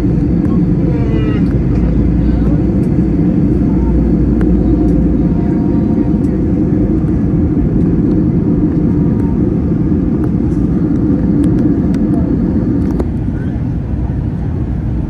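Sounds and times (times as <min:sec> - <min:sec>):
low rumble of engines and airflow: 0:00.0 - 0:15.0.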